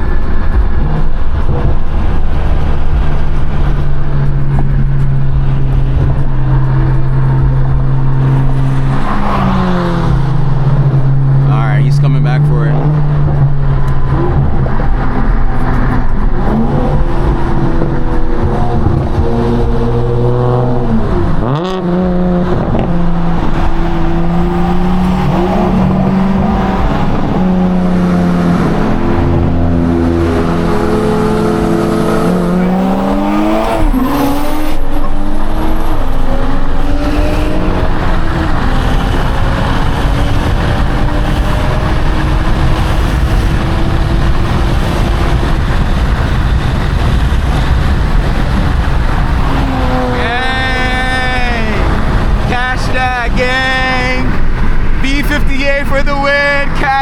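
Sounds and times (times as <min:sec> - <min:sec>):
car engine at full throttle: 0:00.0 - 0:57.0
gear upshifts: 0:00.5 - 0:56.8.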